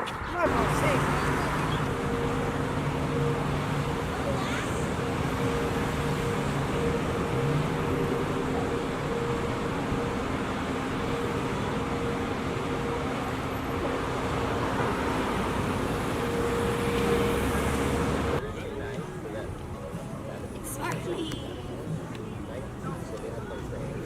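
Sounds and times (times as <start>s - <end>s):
road traffic noise: 0.0s - 24.0s
low engine-like hum: 0.4s - 20.5s.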